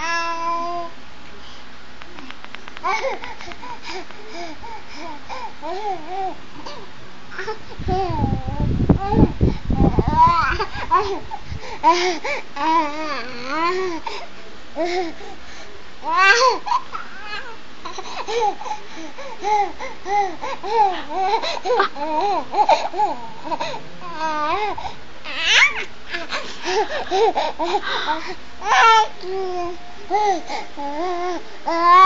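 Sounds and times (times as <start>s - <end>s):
baby laughing and babbling: 2.8s - 14.2s, 16.0s - 32.0s.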